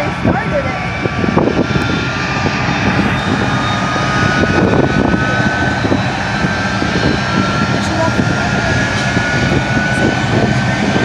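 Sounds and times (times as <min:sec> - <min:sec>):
aircraft engine drone: 0:00.0 - 0:11.0
high whine rising in pitch: 0:00.0 - 0:11.0.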